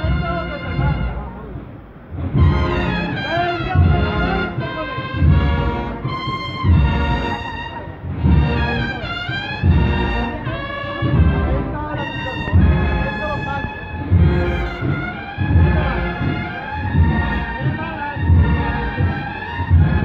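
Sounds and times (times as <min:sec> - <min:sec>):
brass band melody: 0:00.0 - 0:20.0
heavy drum beat: 0:00.0 - 0:20.0.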